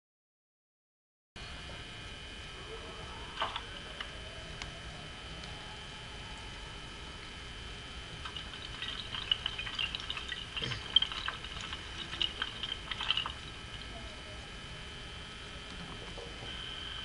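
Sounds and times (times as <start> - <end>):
faint high whine: 1.4 - 17.0.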